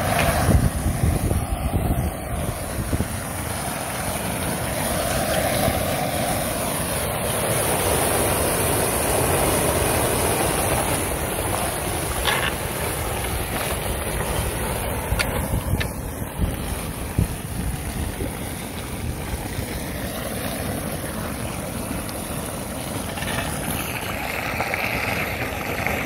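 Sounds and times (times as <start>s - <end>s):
water rushing down storm drain: 0.0s - 26.0s
wind buffeting microphone: 0.0s - 26.0s.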